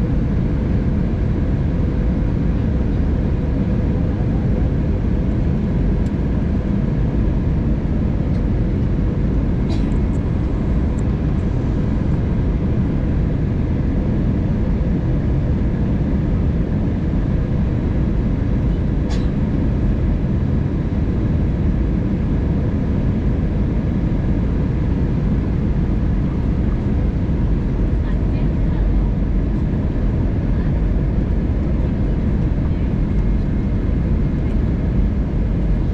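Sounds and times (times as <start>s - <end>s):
airplane cabin roar: 0.0s - 35.9s.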